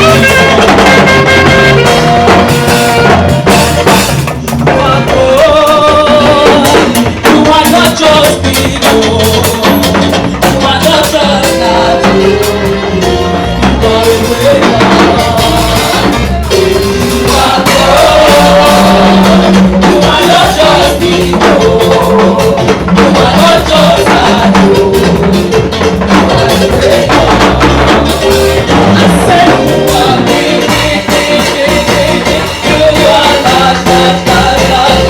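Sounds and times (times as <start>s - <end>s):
drum kit beat: 0.0s - 35.0s
voices singing gospel: 0.0s - 35.0s.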